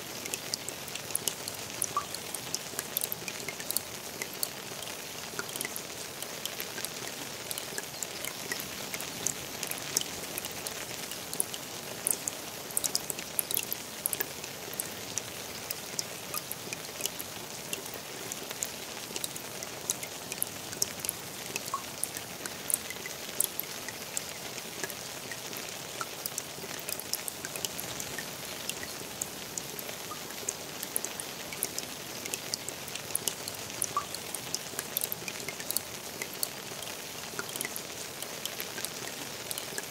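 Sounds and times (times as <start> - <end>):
rain falling into a pond: 0.0 - 39.9.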